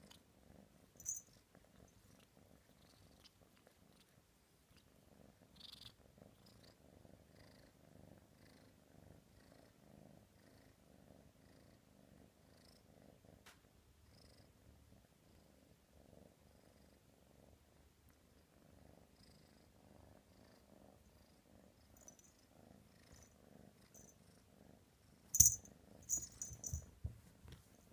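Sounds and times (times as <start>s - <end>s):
kitten purring: 0.0s - 27.9s.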